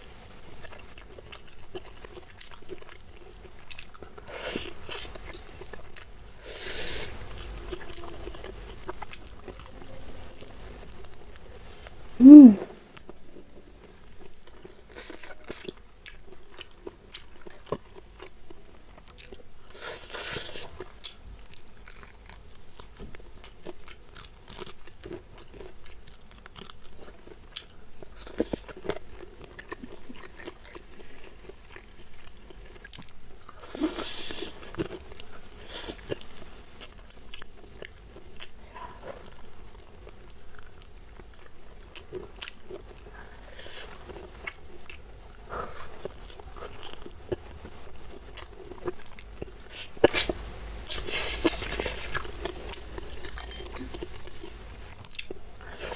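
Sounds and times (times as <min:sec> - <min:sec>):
person chewing crispy chicken: 0:00.0 - 0:12.2, 0:12.9 - 0:55.9.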